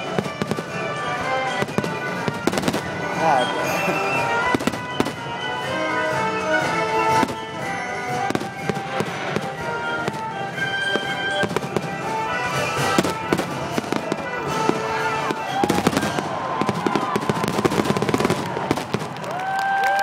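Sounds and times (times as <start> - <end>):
orchestra playing: 0.0 - 19.5
fireworks bursting: 0.0 - 20.0.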